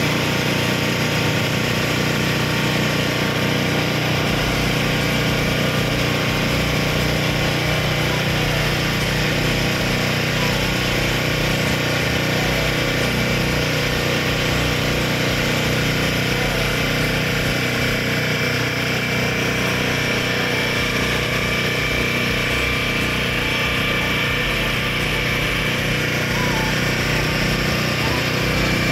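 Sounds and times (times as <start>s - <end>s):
fountain water splashing: 0.0s - 28.9s
mechanical hum: 0.0s - 28.9s.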